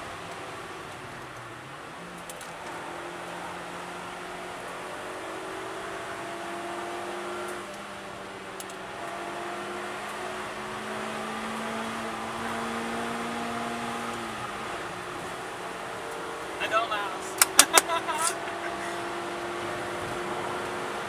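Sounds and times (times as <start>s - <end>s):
car engine pulling hard: 2.2s - 21.0s.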